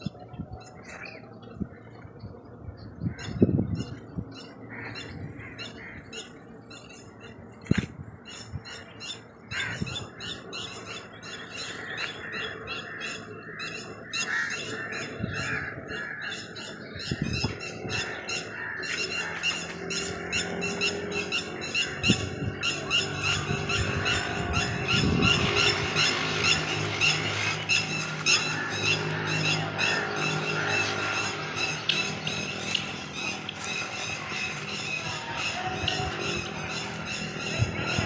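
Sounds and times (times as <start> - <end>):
birds chirping: 0.0 - 38.0
bird squawks: 3.0 - 38.0.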